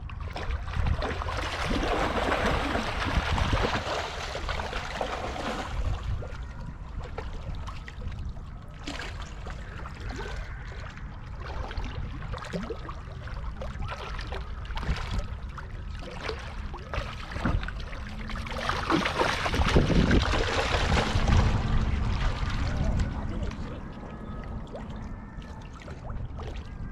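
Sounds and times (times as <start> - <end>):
fish splashing: 0.1 - 26.9.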